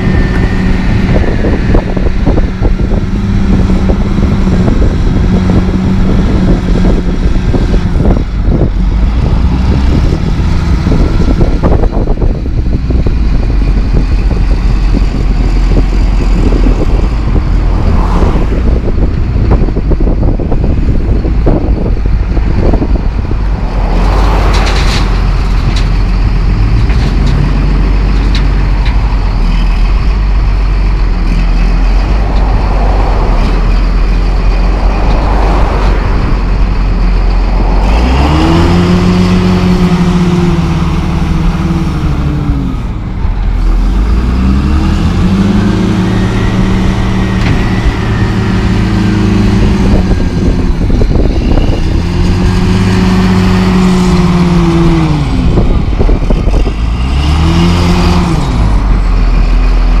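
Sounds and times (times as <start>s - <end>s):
diesel engine revving: 0.0s - 60.0s.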